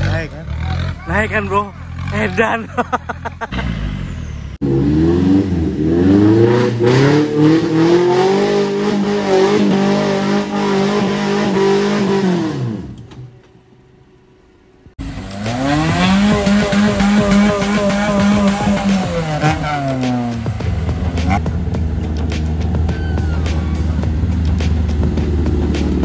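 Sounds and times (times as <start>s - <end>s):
off-road engine revving hard: 0.0s - 13.1s, 15.0s - 26.0s
second engine revving steadily: 0.0s - 26.0s.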